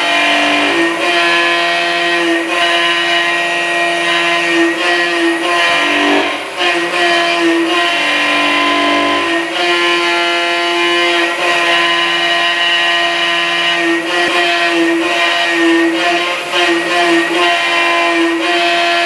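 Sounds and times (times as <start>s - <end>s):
milling machine cutting metal: 0.0s - 19.0s.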